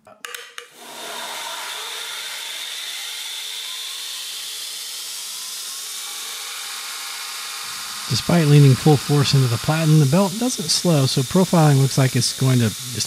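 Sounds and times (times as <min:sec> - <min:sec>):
belt grinder running: 0:00.8 - 0:13.0.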